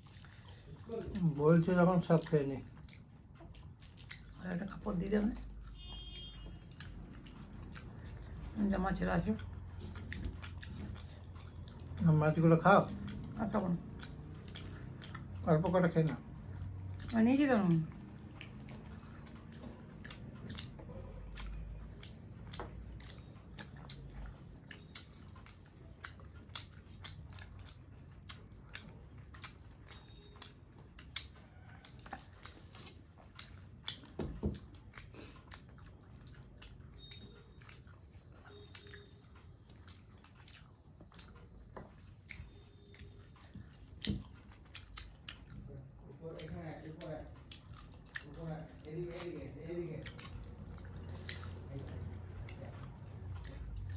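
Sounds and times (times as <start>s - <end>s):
chewing and lip smacks: 0.0s - 53.9s.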